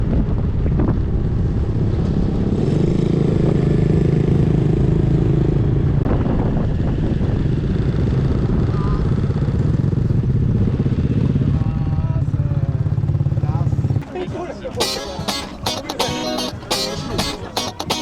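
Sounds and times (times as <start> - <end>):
motorcycle engine rumbling: 0.0 - 14.0, 14.8 - 18.0.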